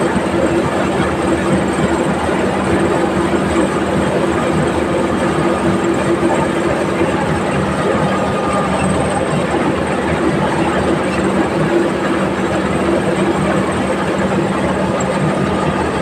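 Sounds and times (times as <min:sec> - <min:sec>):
travel noise rumble: 0:00.0 - 0:16.0
vehicle engine running: 0:00.0 - 0:16.0.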